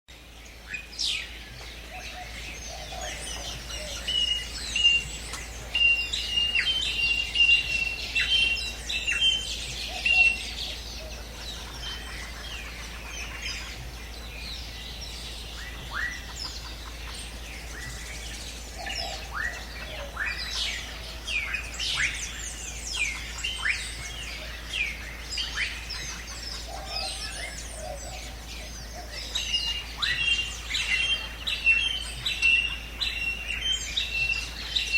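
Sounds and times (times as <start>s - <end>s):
birds chirping and calling: 0.1s - 34.9s.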